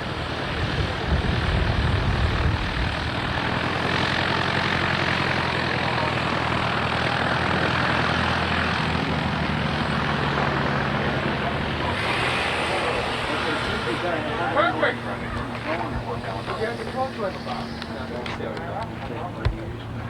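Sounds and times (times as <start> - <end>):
light airplane engine and propeller: 0.0 - 20.0.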